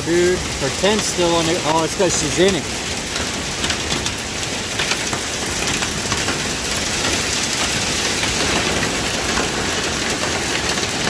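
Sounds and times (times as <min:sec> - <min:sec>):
hail and drop hits: 0:00.0 - 0:11.0
heavy rain rushing: 0:00.0 - 0:11.0.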